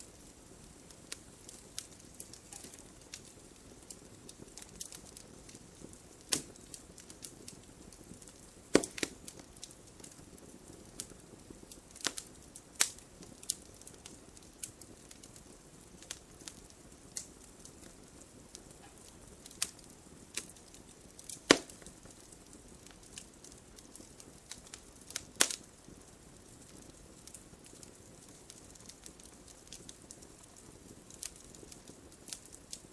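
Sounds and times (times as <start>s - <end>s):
wood fire crackling and popping: 0.0s - 32.9s.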